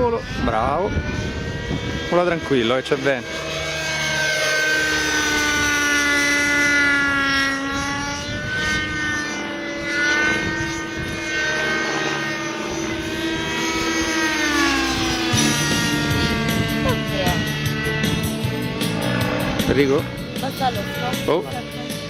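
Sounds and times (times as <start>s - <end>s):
model helicopter engine whining: 0.0s - 22.0s.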